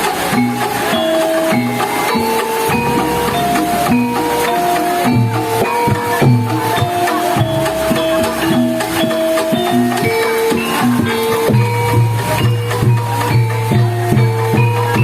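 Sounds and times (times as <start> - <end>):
gamelan struck metal notes: 0.0 - 15.0
low hand-drum strokes: 0.0 - 15.0.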